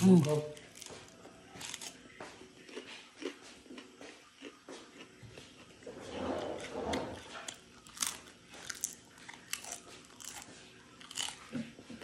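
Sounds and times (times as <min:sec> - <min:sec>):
crunching rice wafers: 0:00.0 - 0:11.6.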